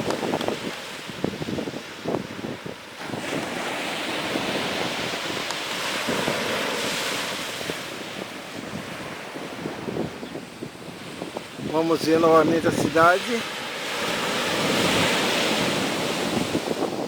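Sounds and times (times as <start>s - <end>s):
sea waves washing on shore: 0.0s - 17.0s
wind buffeting microphone: 0.0s - 17.0s.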